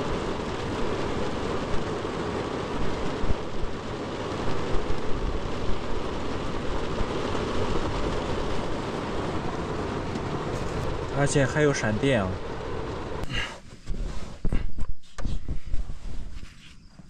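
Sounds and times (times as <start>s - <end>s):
heavy rain downpour: 0.0s - 14.7s.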